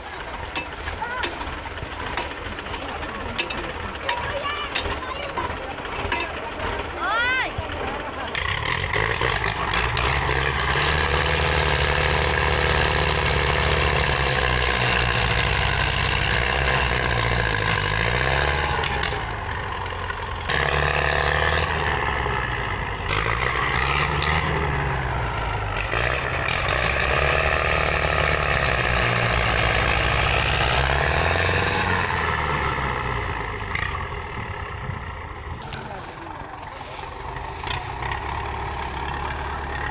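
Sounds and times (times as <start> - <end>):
tractor diesel engines straining: 0.0 - 39.9.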